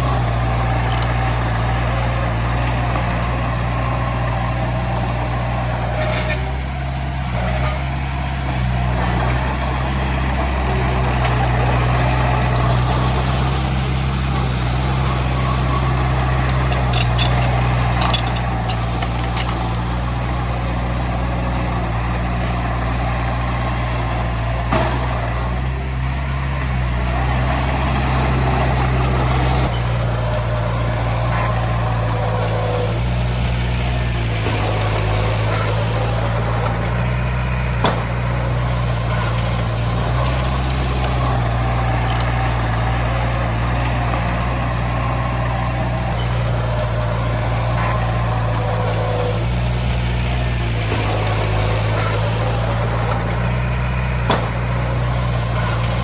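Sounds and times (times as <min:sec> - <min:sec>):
metal clanks: 0:00.0 - 0:23.6, 0:28.2 - 0:56.0
heavy diesel engine running: 0:00.0 - 0:56.0.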